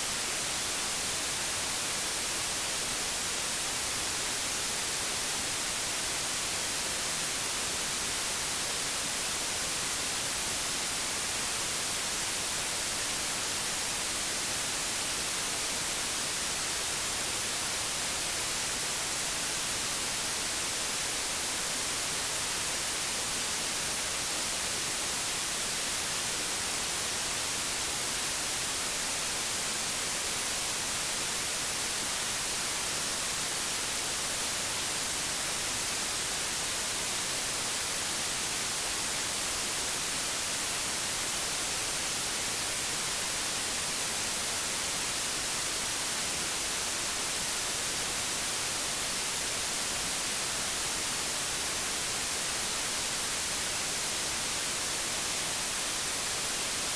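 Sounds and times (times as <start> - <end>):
television static hiss: 0.0 - 56.9.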